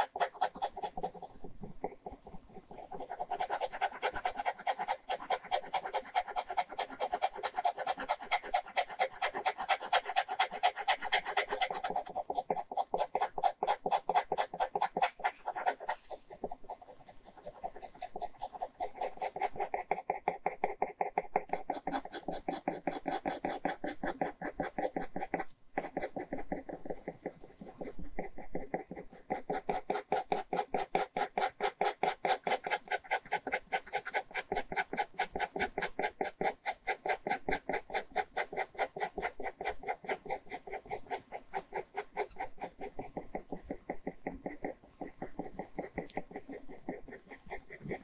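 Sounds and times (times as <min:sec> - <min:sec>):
ballpoint pen scratching paper: 0:00.0 - 0:48.0.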